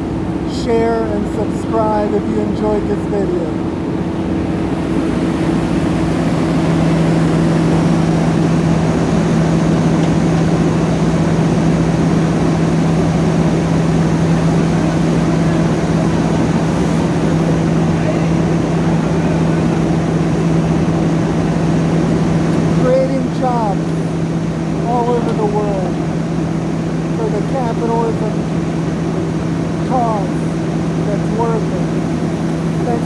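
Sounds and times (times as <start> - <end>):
diesel engines running: 0.0 - 33.0.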